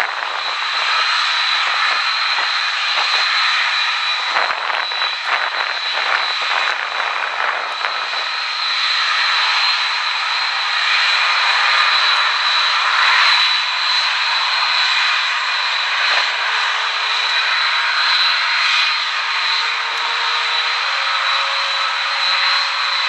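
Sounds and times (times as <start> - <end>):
high jet whine: 0.0 - 23.0
jet engines at takeoff: 0.0 - 23.0.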